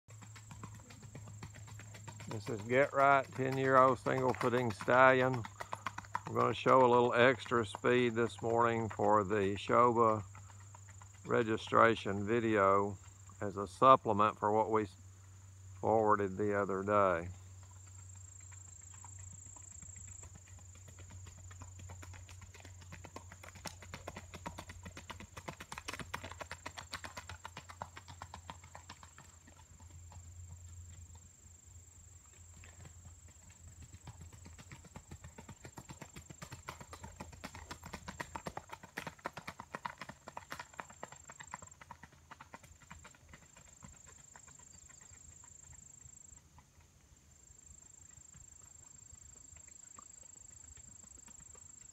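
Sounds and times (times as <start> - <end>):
horse hoofbeats on gravel: 0.1 - 14.7, 15.8 - 31.4, 32.2 - 47.2, 47.8 - 51.9.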